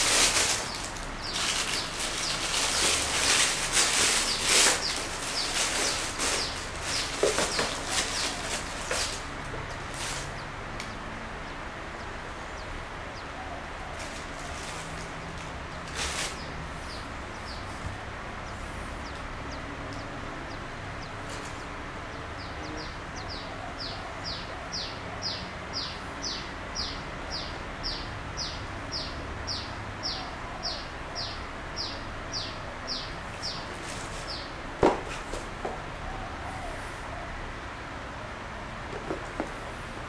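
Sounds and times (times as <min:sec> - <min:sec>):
steady background noise: 0:00.0 - 0:40.0.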